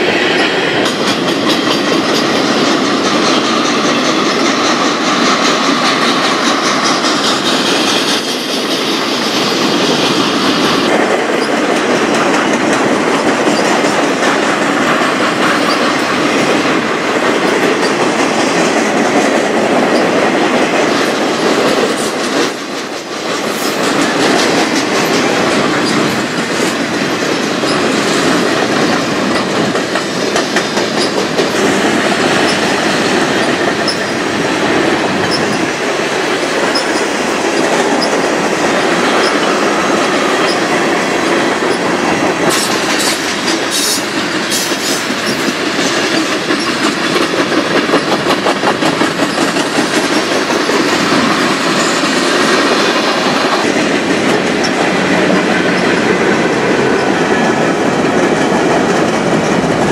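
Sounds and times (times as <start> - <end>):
clickety-clack over rail joints: 0.0 - 59.9
freight train wheels rumbling on rail: 0.0 - 59.9.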